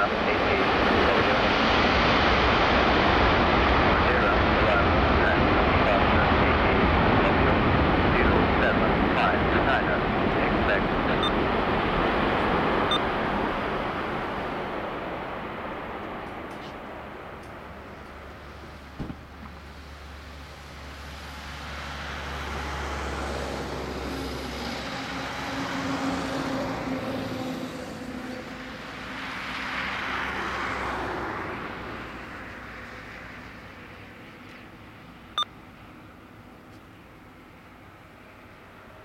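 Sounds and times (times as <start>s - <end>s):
jet engines rumbling: 0.0s - 36.4s.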